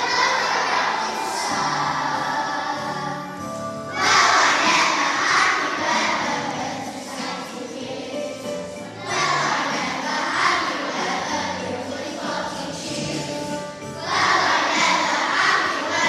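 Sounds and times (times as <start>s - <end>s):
accompanying music: 0.0s - 16.0s
children singing: 0.0s - 16.0s.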